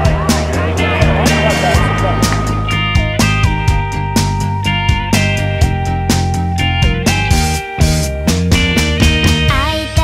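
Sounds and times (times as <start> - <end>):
background music with steady beat: 0.0 - 9.6.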